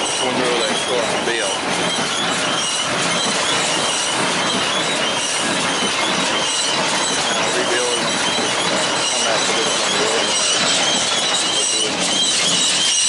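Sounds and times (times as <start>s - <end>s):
faint high squeaks: 0.0s - 13.0s
farm machinery clattering: 0.0s - 13.0s.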